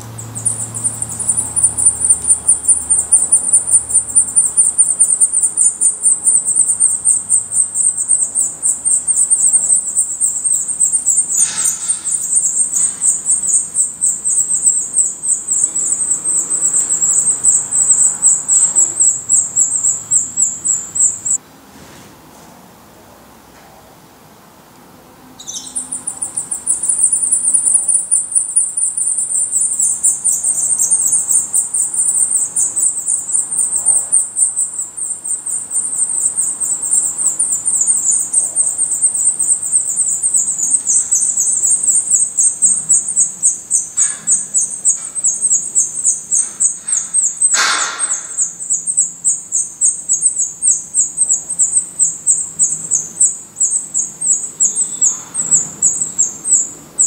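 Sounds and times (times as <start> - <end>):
nestlings begging calls: 0.0 - 21.4, 25.4 - 57.0.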